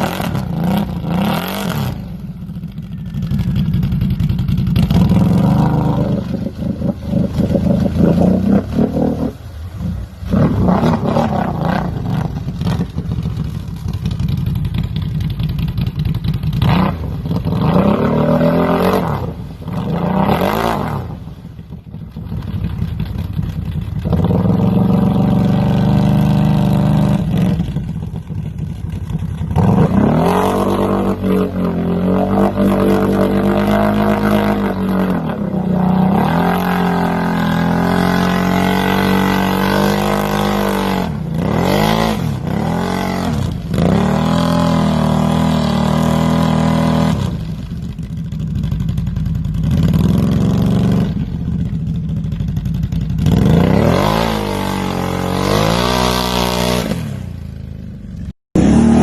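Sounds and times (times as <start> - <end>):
off-road vehicle engine revving: 0.0 - 21.5, 22.1 - 59.0.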